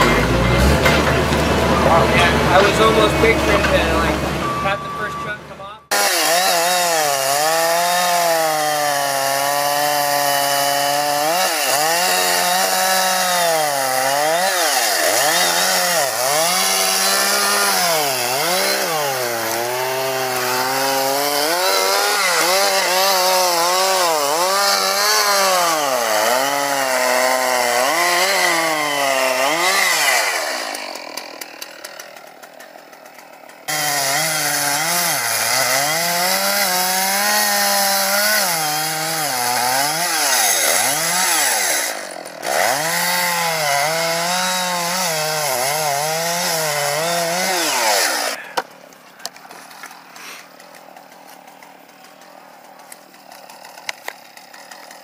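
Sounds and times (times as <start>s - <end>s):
chainsaw cutting wood: 0.0s - 5.3s, 5.9s - 55.0s.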